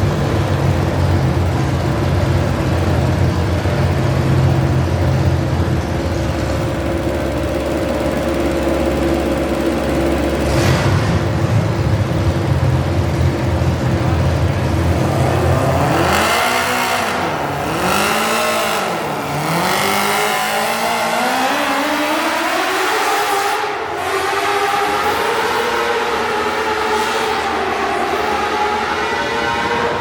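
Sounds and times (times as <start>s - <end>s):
tractor engine rumbling and revving: 0.0s - 30.0s.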